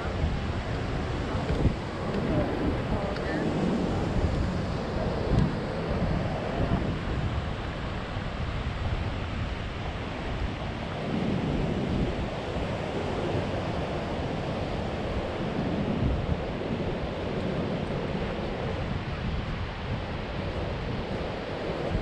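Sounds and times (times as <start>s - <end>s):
ocean surf breaking: 0.0s - 22.0s
wind blowing across microphone: 0.0s - 22.0s.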